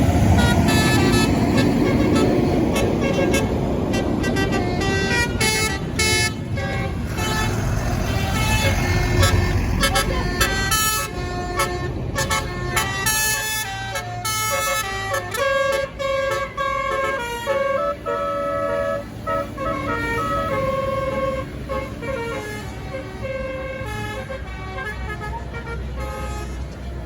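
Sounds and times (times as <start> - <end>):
bus horn playing a tune: 0.0 - 26.9
bus engine running: 0.0 - 27.0.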